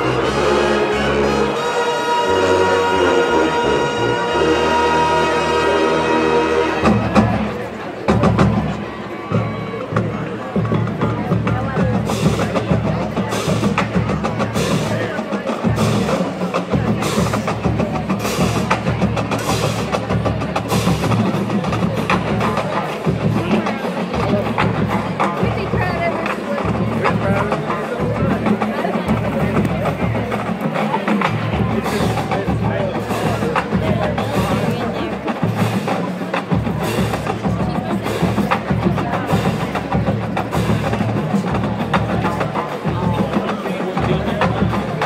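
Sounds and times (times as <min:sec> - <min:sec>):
drumline playing cadence: 0:00.0 - 0:45.0.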